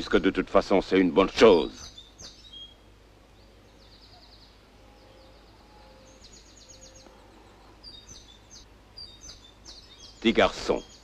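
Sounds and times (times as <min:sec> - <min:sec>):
low steady background noise: 0:00.0 - 0:11.0
small bird chirping: 0:01.7 - 0:11.0.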